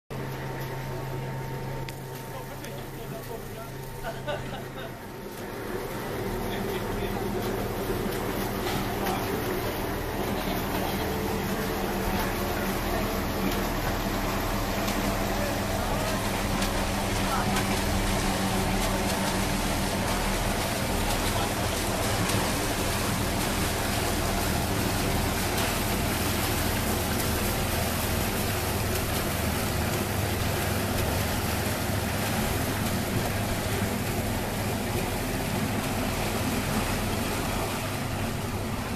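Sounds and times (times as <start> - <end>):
boat engine humming: 0.1 - 38.9
churned water hissing: 0.9 - 38.9.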